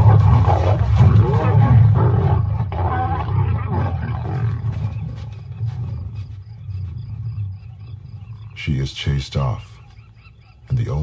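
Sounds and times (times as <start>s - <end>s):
lions growling: 0.0s - 9.8s.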